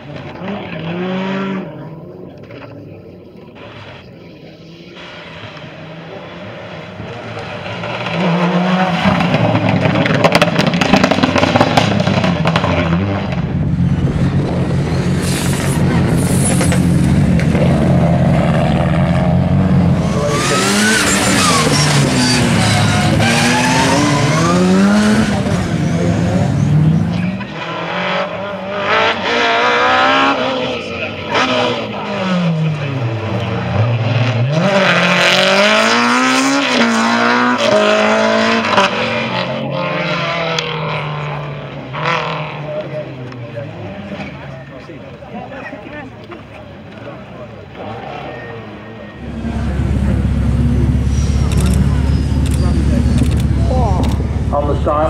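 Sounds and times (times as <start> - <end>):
rally car engines revving past: 0.0 - 55.0.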